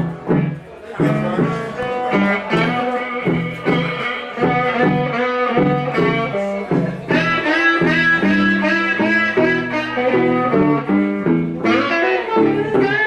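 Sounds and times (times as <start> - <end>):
electric blues band playing: 0.0 - 13.0
electric guitar: 0.0 - 13.0.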